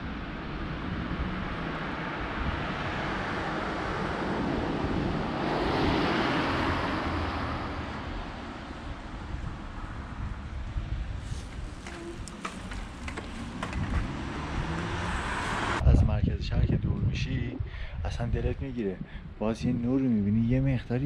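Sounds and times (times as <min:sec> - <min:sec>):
wind buffeting microphone: 0:00.4 - 0:21.0.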